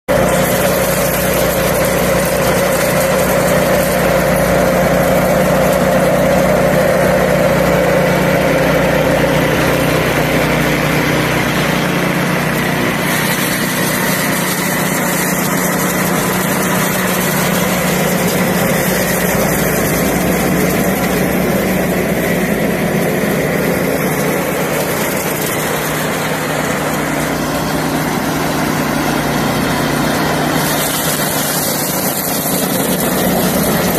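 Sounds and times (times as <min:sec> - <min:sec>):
engine-driven thresher running: 0:00.0 - 0:33.9.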